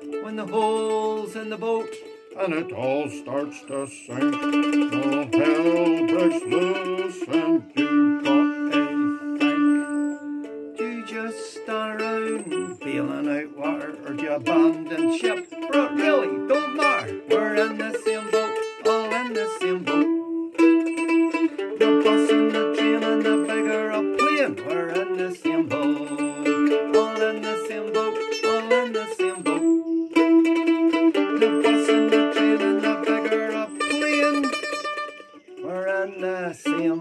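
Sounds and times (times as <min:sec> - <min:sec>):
mandolin picked notes: 0:00.0 - 0:37.0.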